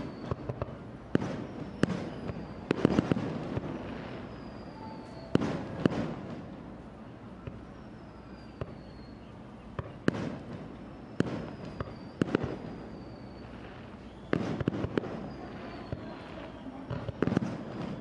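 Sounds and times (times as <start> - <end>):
faint falling whistles: 0.0 - 6.4, 7.1 - 18.0
fireworks bangs: 0.0 - 6.8, 7.4 - 18.0
fireworks crackling: 0.0 - 18.0.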